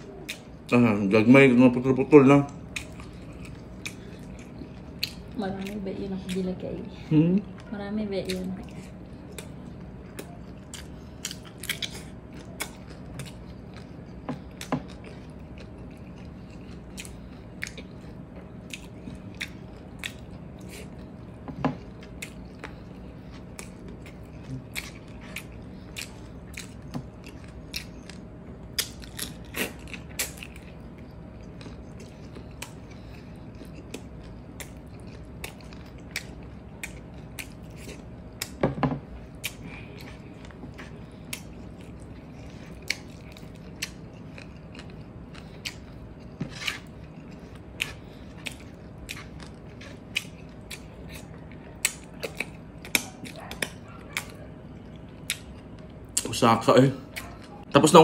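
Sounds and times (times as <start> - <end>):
man chewing food: 0.0 - 58.0.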